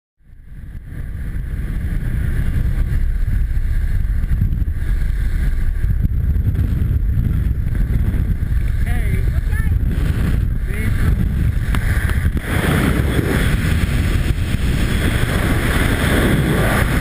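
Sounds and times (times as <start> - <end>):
wind buffeting microphone: 0.2 - 17.0
plane engine and propeller: 0.3 - 17.0.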